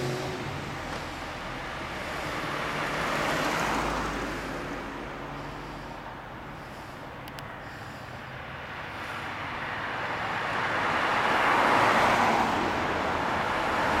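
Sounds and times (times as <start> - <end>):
car passing close: 0.0 - 14.0
street traffic: 0.0 - 14.0.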